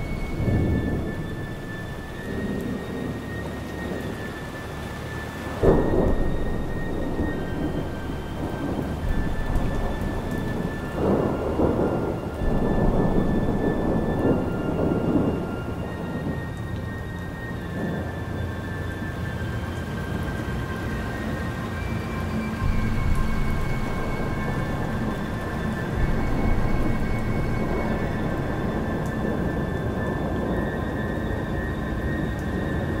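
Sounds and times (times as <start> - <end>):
steady rain: 0.0 - 33.0
thunder rumbling: 0.0 - 33.0.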